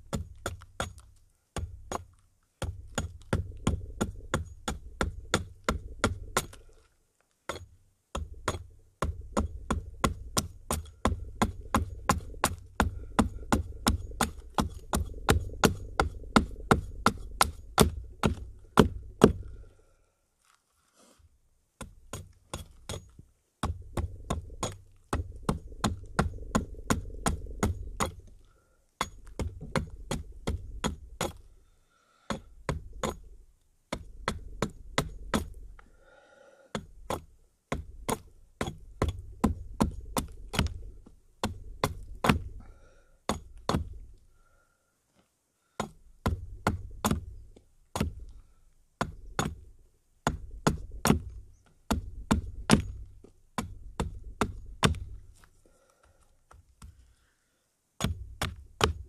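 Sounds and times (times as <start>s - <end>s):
hatchet chopping wood: 0.0s - 6.8s, 7.5s - 19.6s, 21.8s - 31.5s, 32.3s - 35.8s, 36.7s - 44.2s, 45.7s - 55.3s, 58.0s - 59.0s.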